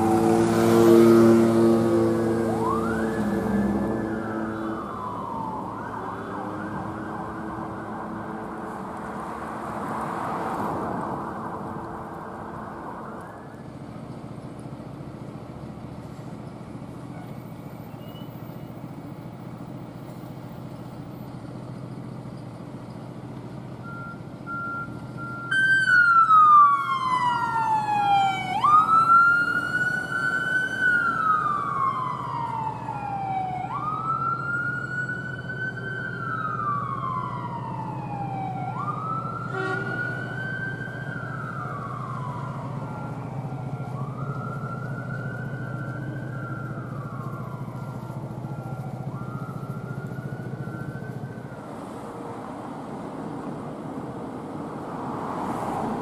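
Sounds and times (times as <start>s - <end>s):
emergency vehicle siren wailing: 0.0s - 14.4s, 23.7s - 56.0s
engine and road rumble: 0.0s - 56.0s.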